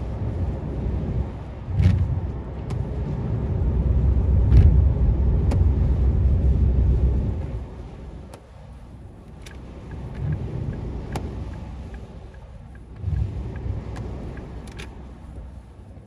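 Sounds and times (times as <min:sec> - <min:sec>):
tyre and wind rumble: 0:00.0 - 0:16.0.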